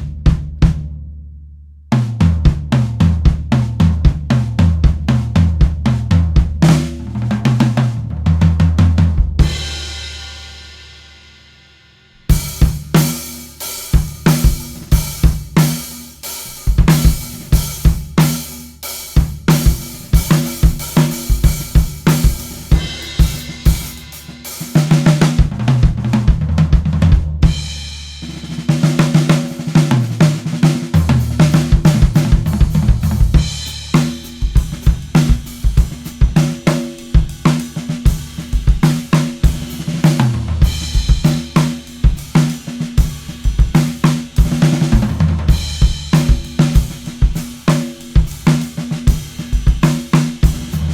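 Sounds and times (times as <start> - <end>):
drum kit groove: 0.0 - 1.1, 1.9 - 11.5, 12.1 - 50.9.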